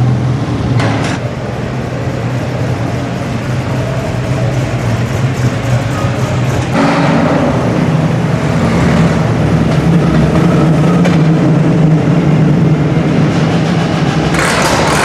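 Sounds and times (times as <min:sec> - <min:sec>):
sports car engines running: 0:00.0 - 0:15.0.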